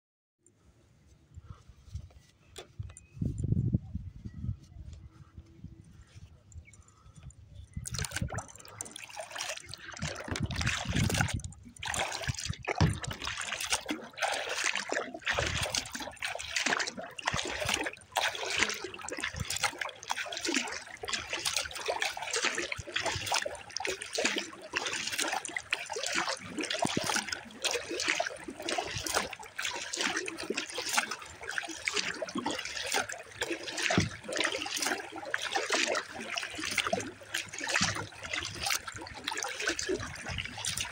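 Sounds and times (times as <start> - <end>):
water splashing against kayak: 5.9 - 40.9.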